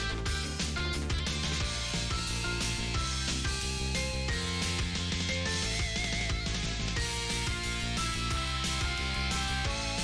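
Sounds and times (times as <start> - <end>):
upbeat rock music: 0.0 - 10.0.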